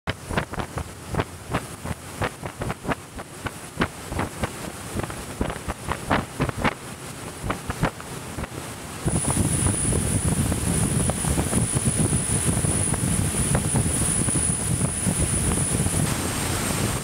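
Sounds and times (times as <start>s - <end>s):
rushing water: 0.1s - 17.0s
rushing wind: 0.1s - 17.0s
wind buffeting microphone: 0.1s - 17.0s.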